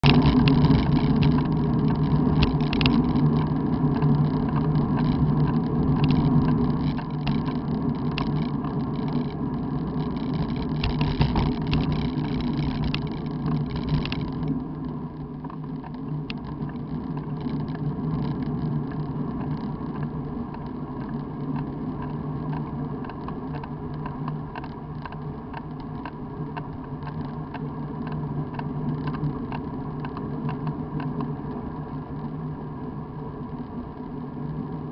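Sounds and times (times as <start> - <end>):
small rattling clicks: 0.0 - 31.3
road noise rumble: 0.0 - 34.9.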